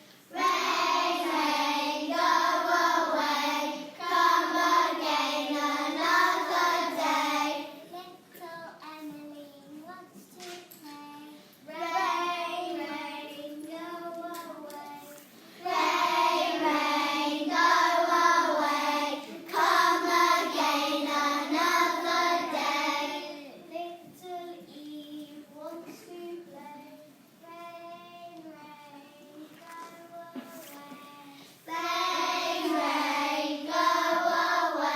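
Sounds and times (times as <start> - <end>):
young children singing: 0.0 - 34.9.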